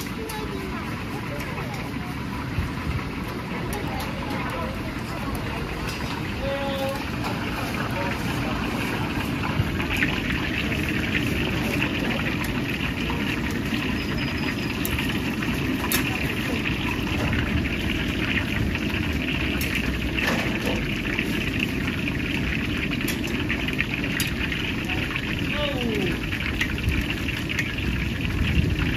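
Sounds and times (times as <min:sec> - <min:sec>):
frying hiss: 0:00.0 - 0:28.9.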